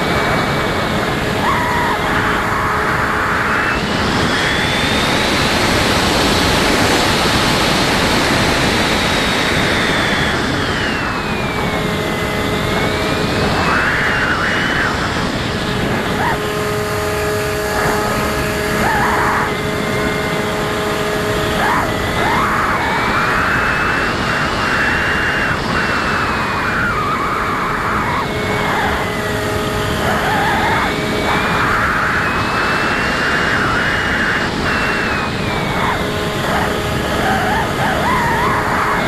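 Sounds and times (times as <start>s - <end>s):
electric motor and propeller whine: 0.0s - 39.0s.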